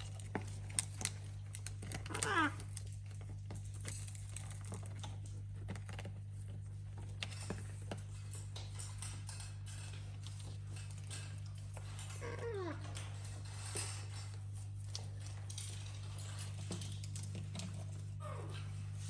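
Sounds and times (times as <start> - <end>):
parrots clicking and tapping: 0.0 - 19.0.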